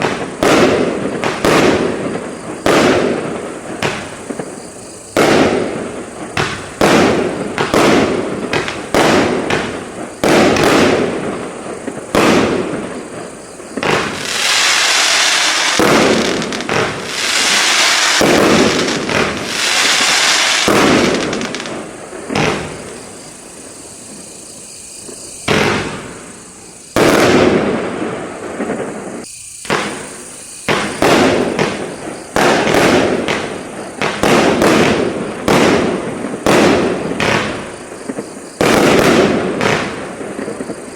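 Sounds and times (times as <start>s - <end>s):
firework cake bangs: 0.0s - 23.1s, 25.4s - 26.3s, 26.9s - 40.9s
fireworks hissing: 0.0s - 40.9s.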